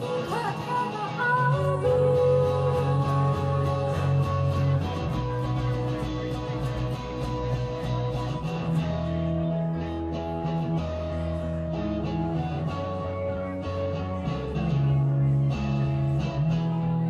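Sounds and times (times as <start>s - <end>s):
bass guitar: 0.0s - 17.0s
electric guitar strumming: 0.0s - 17.0s.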